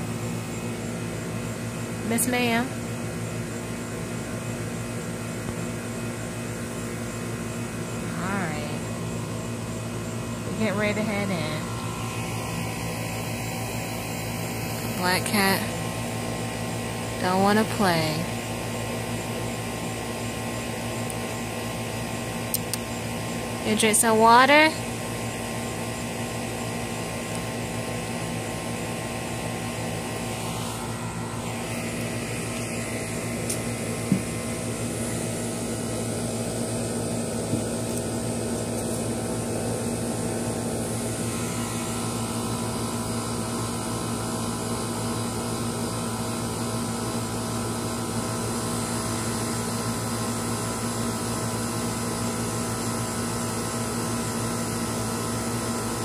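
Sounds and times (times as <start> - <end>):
low mechanical drone: 0.0 - 46.6.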